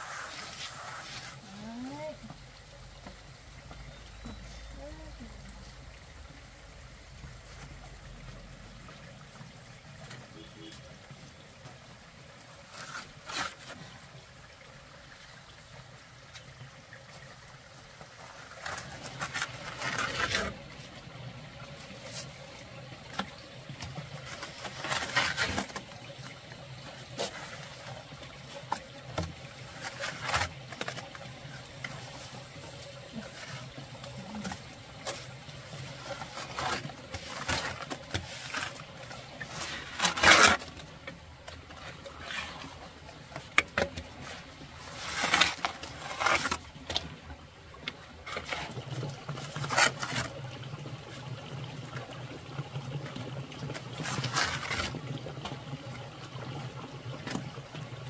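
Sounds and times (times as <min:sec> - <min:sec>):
water splashing and trickling: 0:00.0 - 0:58.0.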